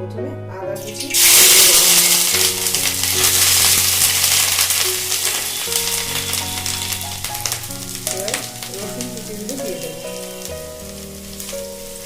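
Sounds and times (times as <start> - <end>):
ginger sizzling in hot oil: 0.8 - 12.0.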